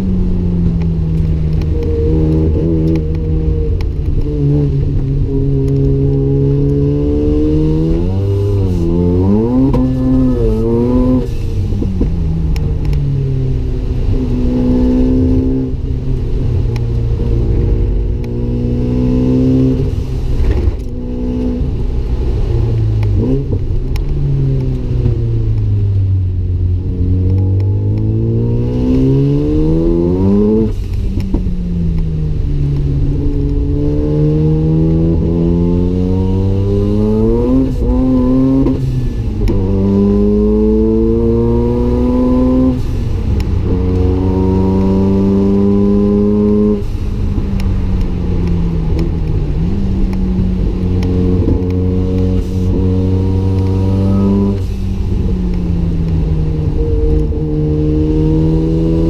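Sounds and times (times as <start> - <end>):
rotary engine accelerating hard: 0.0 - 59.0.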